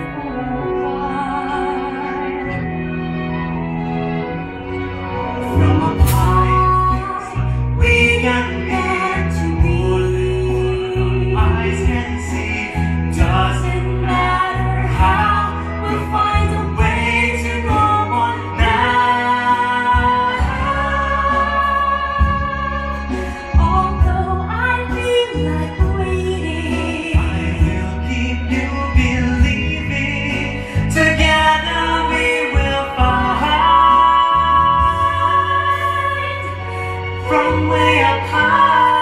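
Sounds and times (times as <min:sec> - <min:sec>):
person singing: 0:00.0 - 0:03.9, 0:05.0 - 0:39.0
instrumental accompaniment: 0:00.0 - 0:39.0
steady bass: 0:00.0 - 0:39.0.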